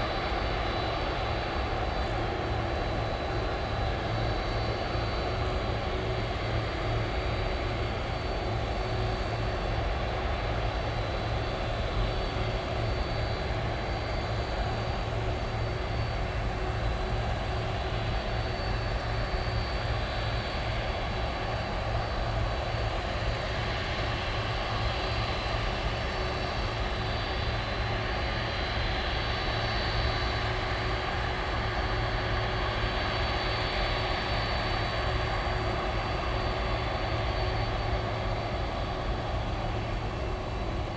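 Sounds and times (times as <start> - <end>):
jet engine rumble with whine: 0.0 - 40.9.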